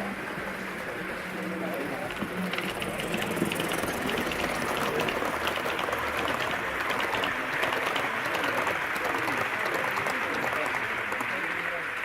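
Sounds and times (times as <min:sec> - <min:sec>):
wheels clicking on track: 0:00.0 - 0:12.0.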